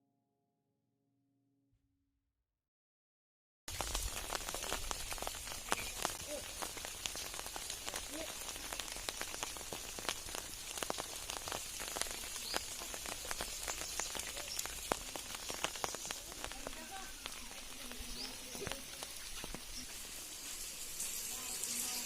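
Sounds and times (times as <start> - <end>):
rain pattering: 3.7 - 22.0.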